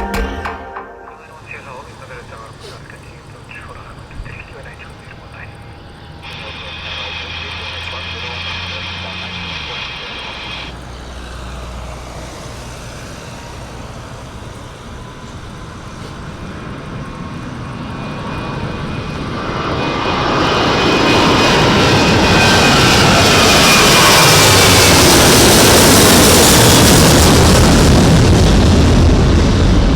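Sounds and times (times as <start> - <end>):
faint engine whine: 1.0 - 29.9
jet engines at takeoff thrust: 1.3 - 29.9.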